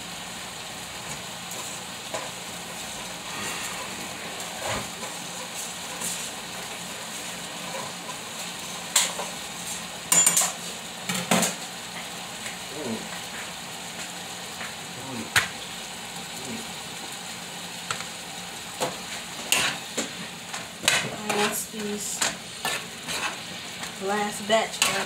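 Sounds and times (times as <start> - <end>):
meat sizzling in a skillet: 0.0 - 25.0.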